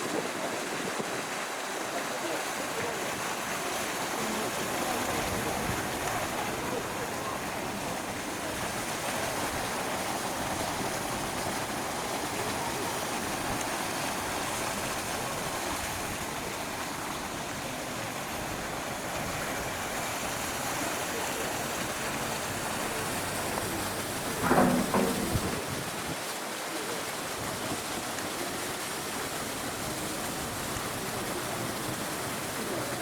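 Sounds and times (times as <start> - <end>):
running water rushing: 0.0 - 33.0.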